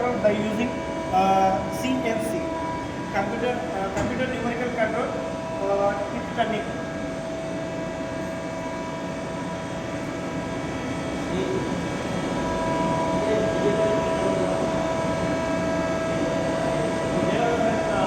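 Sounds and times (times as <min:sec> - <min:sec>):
turning machine whining: 0:00.0 - 0:18.0.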